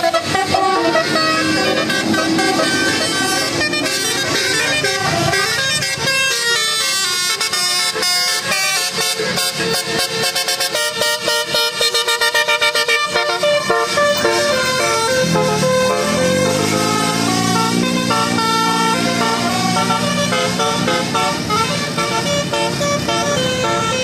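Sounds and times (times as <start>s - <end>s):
musical multi-tone bus horn: 0.0s - 24.0s.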